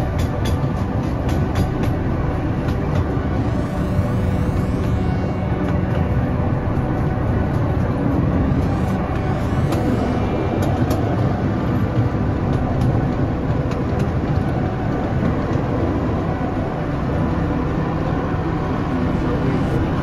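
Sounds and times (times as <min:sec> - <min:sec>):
train wheels rumbling on rails: 0:00.0 - 0:17.4.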